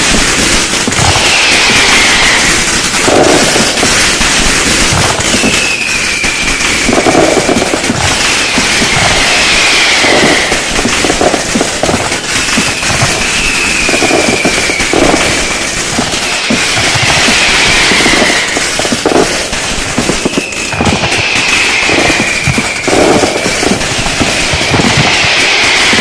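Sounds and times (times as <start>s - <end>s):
descending firework whistle: 0.0s - 26.0s
fireworks crackling and banging: 0.0s - 26.0s.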